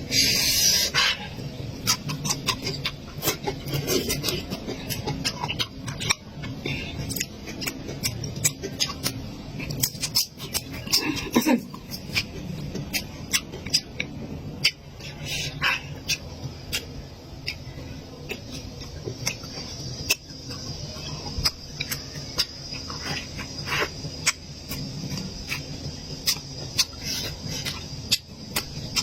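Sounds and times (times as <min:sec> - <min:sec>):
chewing and mouth sounds: 0:00.1 - 0:29.0.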